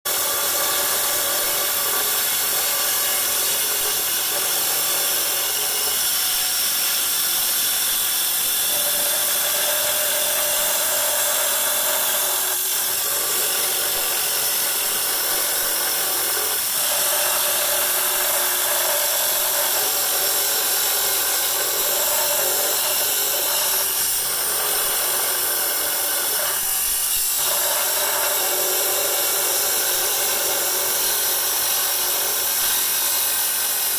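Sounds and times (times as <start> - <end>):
stone saw whining and grinding: 0.1 - 33.9.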